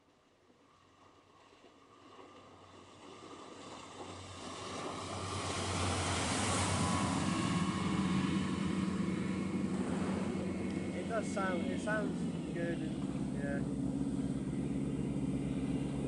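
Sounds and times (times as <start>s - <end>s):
boat engines droning: 0.5s - 16.0s
water rushing off hull: 0.6s - 16.0s.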